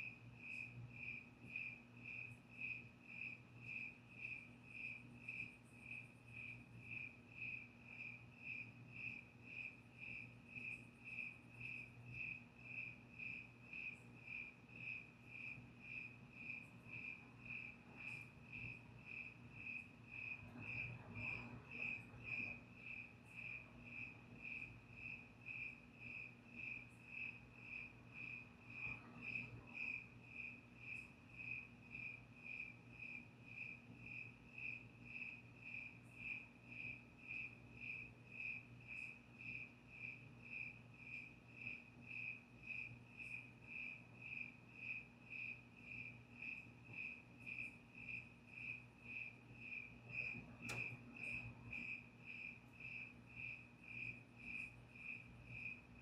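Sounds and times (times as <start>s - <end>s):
cricket chirping: 0.0s - 56.0s
faint low hum: 0.0s - 56.0s.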